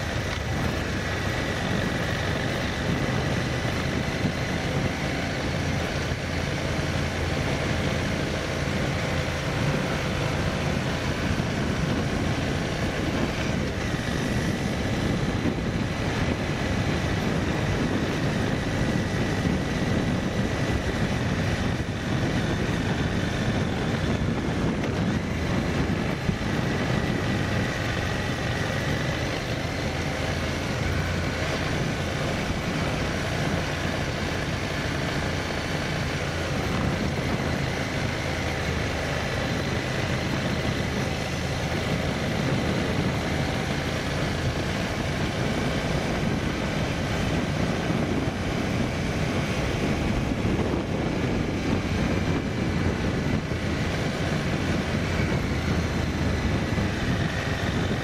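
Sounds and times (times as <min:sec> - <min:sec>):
vehicle driving on rough road: 0:00.0 - 0:58.0.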